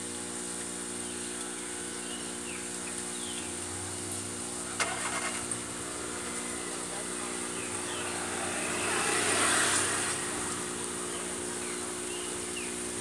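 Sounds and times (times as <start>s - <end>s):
cotton candy machine humming: 0.0s - 13.0s.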